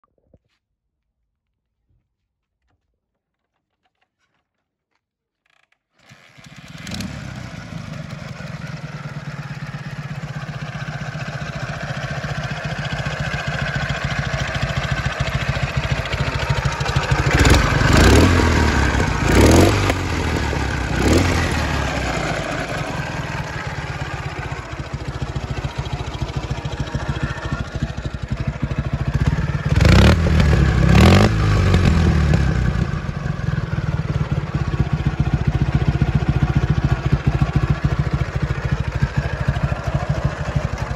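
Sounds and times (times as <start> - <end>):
motorcycle engine starting and running: 6.0 - 40.9
motorcycle throttle revs: 6.1 - 40.9.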